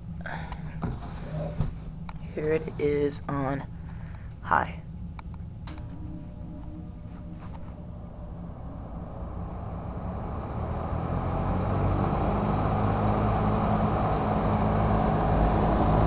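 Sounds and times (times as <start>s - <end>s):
fan air rushing: 0.0s - 16.0s
low motor hum: 0.0s - 16.0s.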